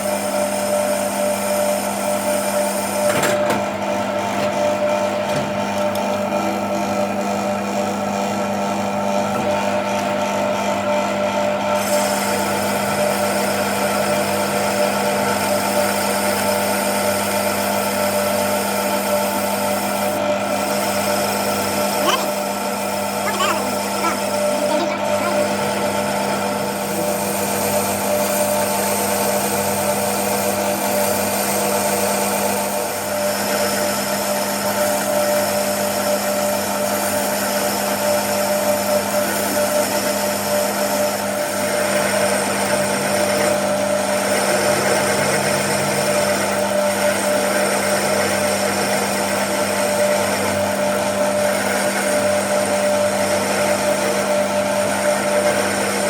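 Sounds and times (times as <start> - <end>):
machine tool humming: 3.7 - 56.0.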